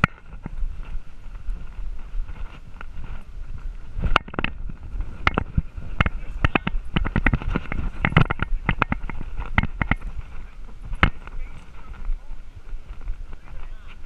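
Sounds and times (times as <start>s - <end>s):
low rumble of movement: 0.0s - 14.0s
wind on microphone: 0.0s - 14.0s.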